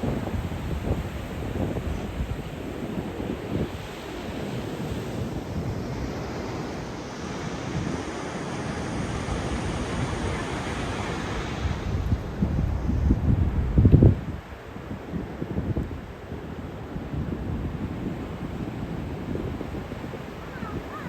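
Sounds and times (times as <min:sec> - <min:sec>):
ocean surf washing in: 0:00.0 - 0:21.0
wind buffeting microphone: 0:00.0 - 0:21.0.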